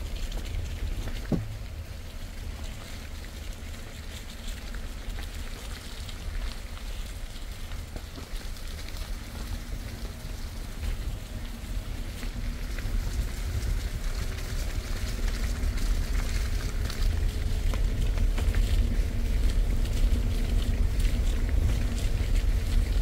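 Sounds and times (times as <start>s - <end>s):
rain falling on foliage: 0.0s - 23.0s
wind rumble on microphone: 0.0s - 23.0s.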